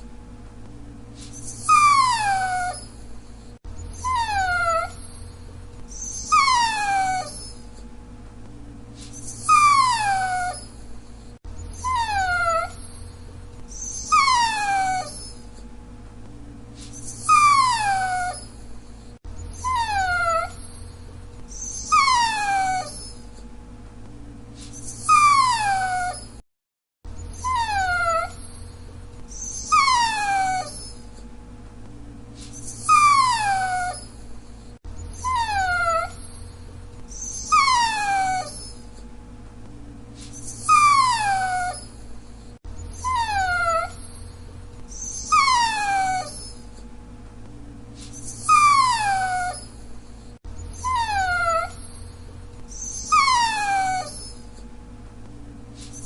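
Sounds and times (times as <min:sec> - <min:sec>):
steady low hum: 0:00.0 - 0:26.4, 0:27.1 - 0:56.0
dog whining: 0:01.2 - 0:07.9, 0:09.0 - 0:15.7, 0:16.8 - 0:23.5, 0:24.6 - 0:26.4, 0:27.1 - 0:31.3, 0:32.4 - 0:39.1, 0:40.2 - 0:46.9, 0:48.0 - 0:54.7, 0:55.8 - 0:56.0.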